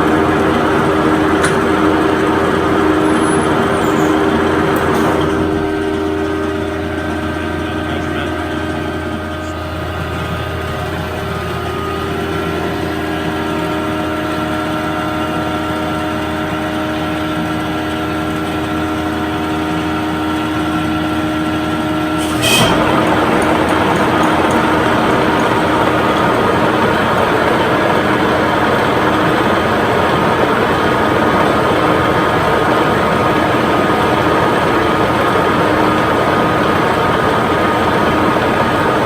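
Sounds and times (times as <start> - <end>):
machine humming and whining: 0.0 - 39.0.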